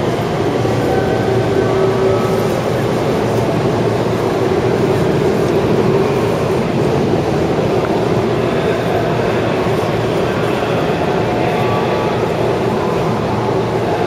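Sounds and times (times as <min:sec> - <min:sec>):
train rumbling over tracks: 0:00.0 - 0:14.0.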